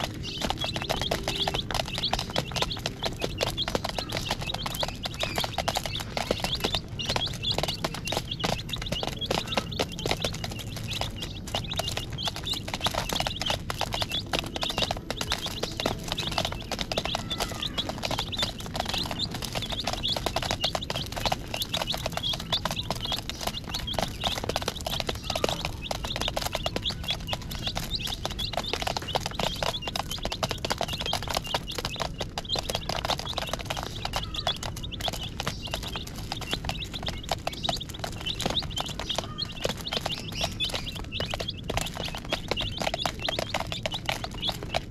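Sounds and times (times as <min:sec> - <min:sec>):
beaks tapping on plastic: 0:00.0 - 0:44.9
chicks peeping: 0:00.0 - 0:44.9.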